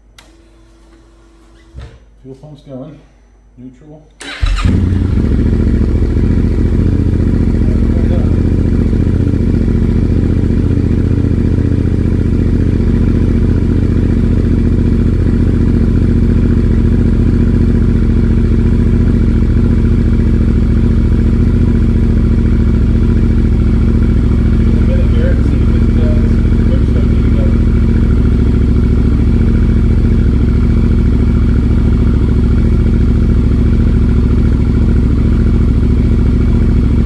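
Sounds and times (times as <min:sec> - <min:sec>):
motorcycle engine starting: 0:04.2 - 0:37.0
motorcycle engine idling: 0:04.3 - 0:37.0.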